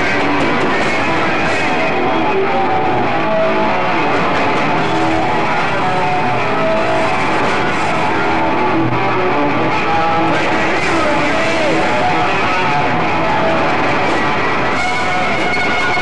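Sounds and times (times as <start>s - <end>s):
electric guitars: 0.0s - 16.0s
hard rock band playing live: 0.0s - 16.0s.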